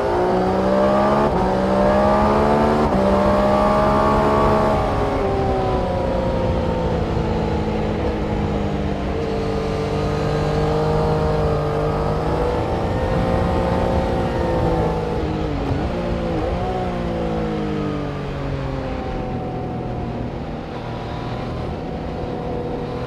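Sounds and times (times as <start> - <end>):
several race car engines running: 0.0 - 23.0.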